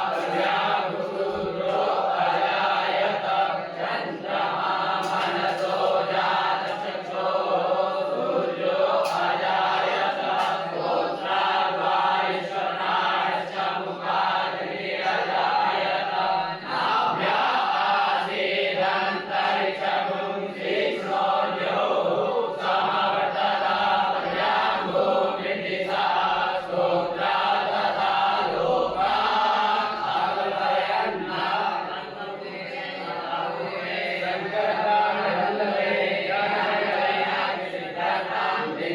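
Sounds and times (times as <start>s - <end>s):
group chanting mantras: 0.0s - 38.9s.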